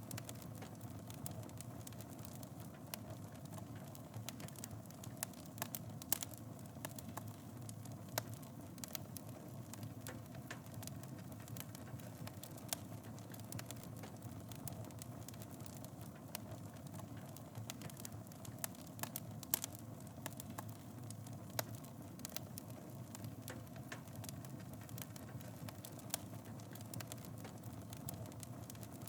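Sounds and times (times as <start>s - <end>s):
fire crackling and popping: 0.0s - 29.0s
wood fire rumbling: 0.0s - 29.0s.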